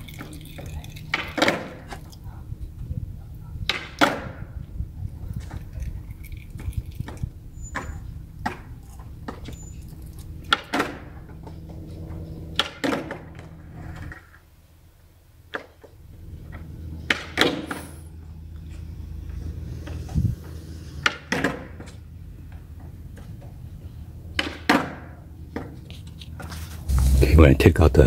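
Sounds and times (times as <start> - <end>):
low steady hum: 0.0 - 21.1, 21.7 - 28.0.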